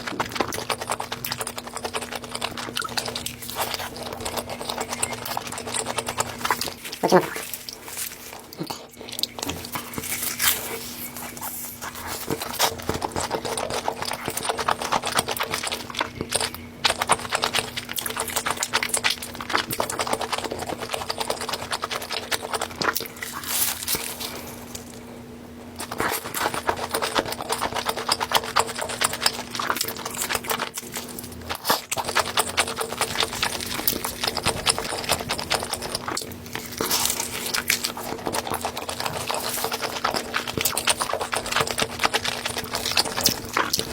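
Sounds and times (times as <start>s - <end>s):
faint steady hum: 0.0s - 43.9s
wet chewing and mouth clicks: 0.0s - 43.9s.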